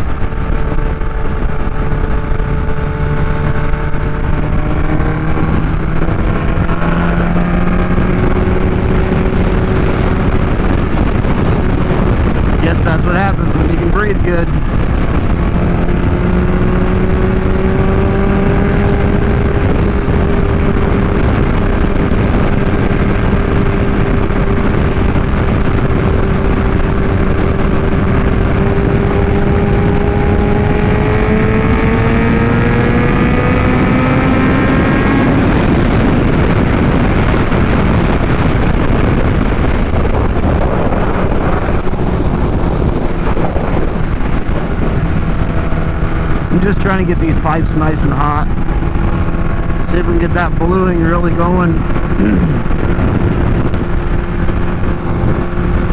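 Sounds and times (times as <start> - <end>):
motorcycle engine at speed: 0.0 - 55.9
wind rush on microphone: 0.0 - 55.9.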